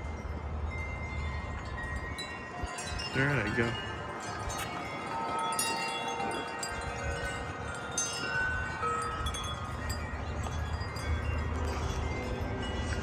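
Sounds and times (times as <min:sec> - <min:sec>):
wind chimes ringing: 0:00.0 - 0:13.0
wind rumble on microphone: 0:00.0 - 0:13.0.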